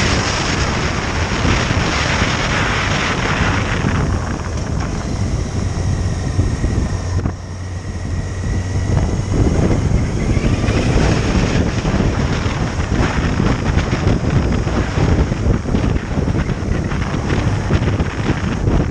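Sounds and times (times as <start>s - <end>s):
motorcycle engine running: 0.0s - 18.9s
wind buffeting microphone: 0.0s - 18.9s.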